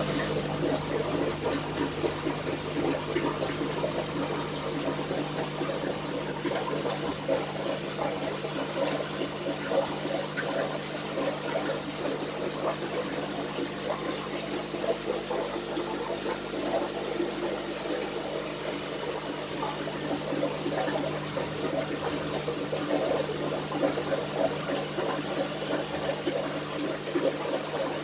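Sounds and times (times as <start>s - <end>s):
aquarium air bubbles fizzing: 0.0s - 28.0s.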